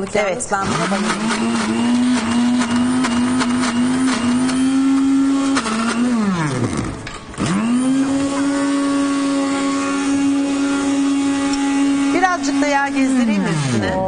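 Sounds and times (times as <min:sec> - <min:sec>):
blender running: 0:00.5 - 0:14.0.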